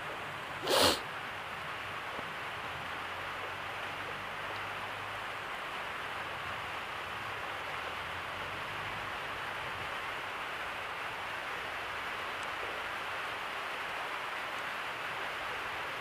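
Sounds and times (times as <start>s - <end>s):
recording hiss: 0.0s - 16.0s.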